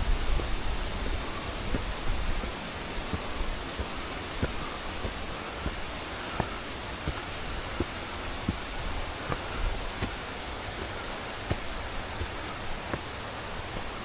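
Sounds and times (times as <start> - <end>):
footsteps on a path: 0.0 - 14.0
water rushing: 0.0 - 14.0.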